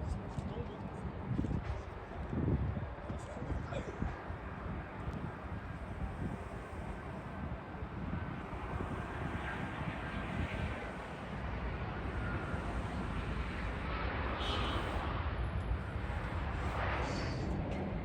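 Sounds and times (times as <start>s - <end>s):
jet engines roaring: 1.1s - 18.0s.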